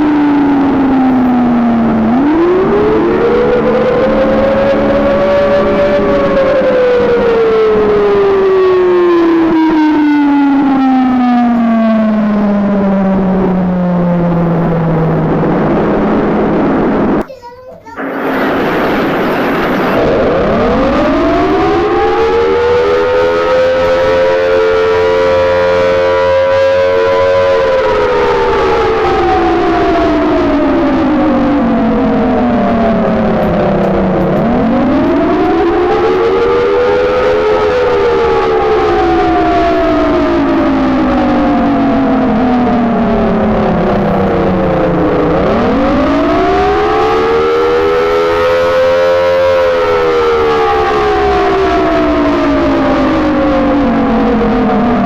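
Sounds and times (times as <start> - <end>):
warning siren winding down: 0.0 - 55.0.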